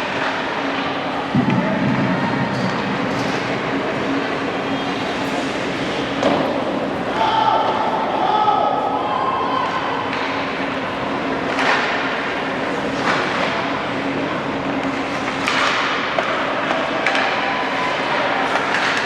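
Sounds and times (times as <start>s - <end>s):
hockey sticks and puck clacking: 0.0s - 7.9s, 9.7s - 19.0s
arena crowd din: 0.0s - 19.0s.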